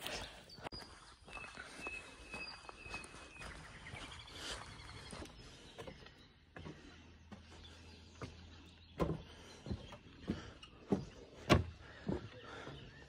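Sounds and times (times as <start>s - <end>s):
footsteps on wooden boardwalk: 0.0s - 13.0s.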